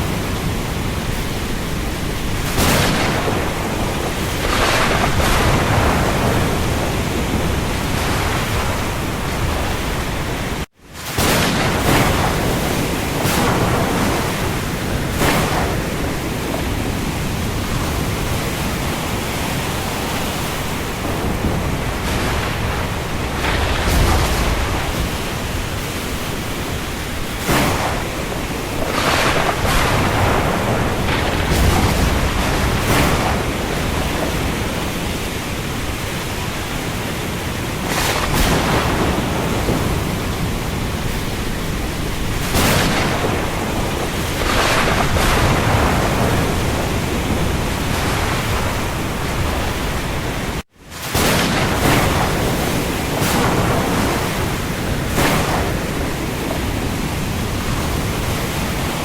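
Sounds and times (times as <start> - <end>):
rain hiss over sea: 0.0 - 59.0
waves breaking: 0.0 - 59.0.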